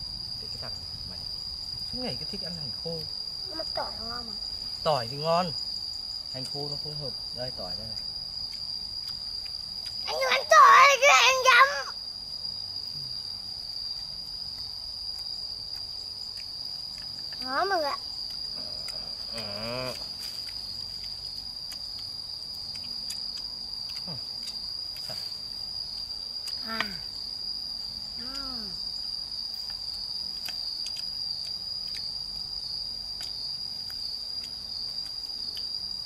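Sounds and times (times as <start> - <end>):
high-pitched insect trill: 0.0 - 36.0.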